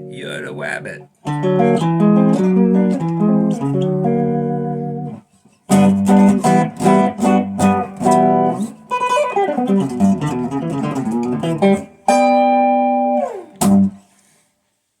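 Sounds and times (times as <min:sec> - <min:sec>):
guitar playing a tune: 0:00.0 - 0:14.1.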